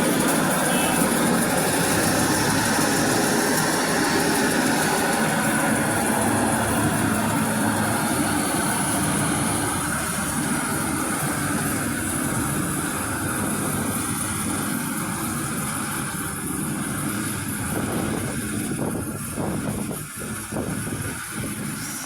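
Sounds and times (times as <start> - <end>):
combine harvester engine with whine: 0.0 - 22.0.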